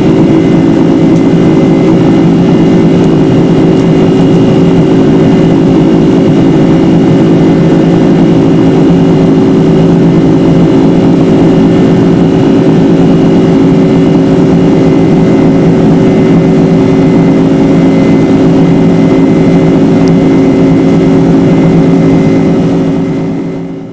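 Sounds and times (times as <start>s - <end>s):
jet engines roaring in cabin: 0.0s - 23.9s.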